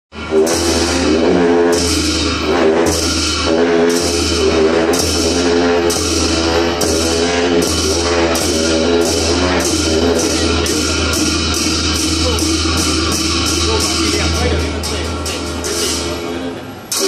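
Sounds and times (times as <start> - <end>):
cymbal strokes: 0.1 - 17.0
drum strokes: 0.1 - 17.0
long horns droning: 0.1 - 17.0.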